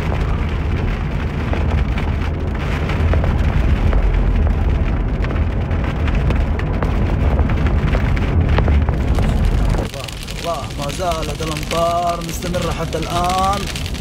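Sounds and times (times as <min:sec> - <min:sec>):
car driving on wet road: 0:00.0 - 0:14.0
heavy rain on car roof: 0:00.0 - 0:14.0.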